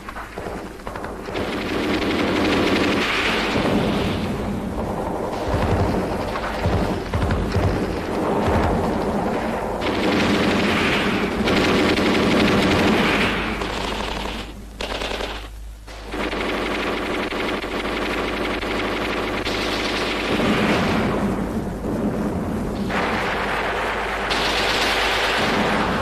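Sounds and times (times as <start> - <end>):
machine-gun and rifle fire: 0.0 - 21.6, 22.2 - 26.0.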